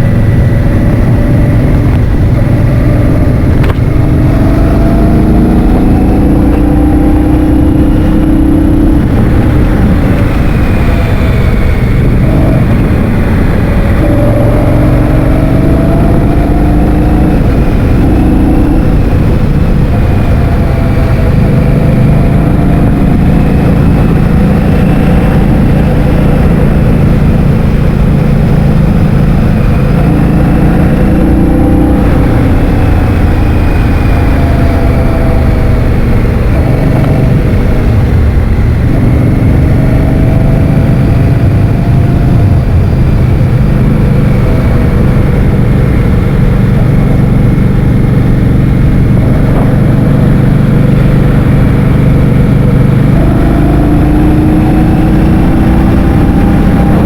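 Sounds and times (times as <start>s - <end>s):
scooter engine running: 0.0s - 57.0s
wind noise on microphone: 0.0s - 57.0s.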